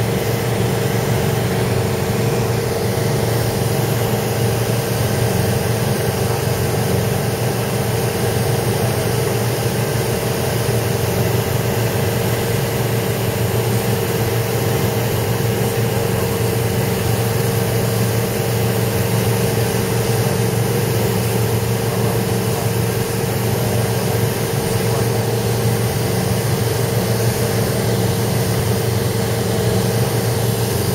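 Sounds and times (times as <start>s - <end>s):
airplane engine droning in cabin: 0.0s - 30.9s.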